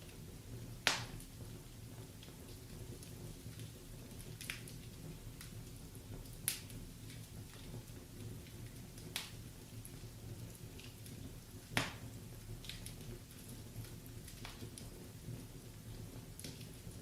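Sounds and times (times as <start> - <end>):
low rumble of flames: 0.0 - 17.0
sharp pops of fire: 0.8 - 17.0.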